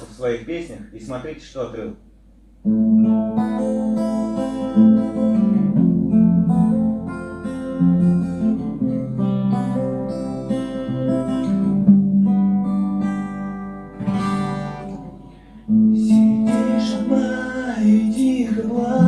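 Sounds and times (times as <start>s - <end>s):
acoustic guitar strumming chords: 2.6s - 19.0s.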